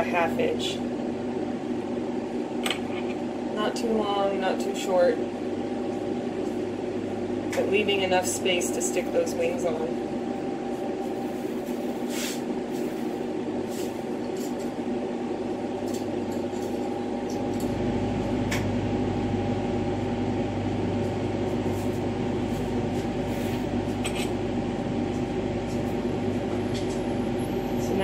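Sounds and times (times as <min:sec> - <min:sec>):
deeper hum: 0:00.0 - 0:28.0
torch burning hum: 0:00.0 - 0:28.0
machinery running with held tones: 0:02.3 - 0:28.0.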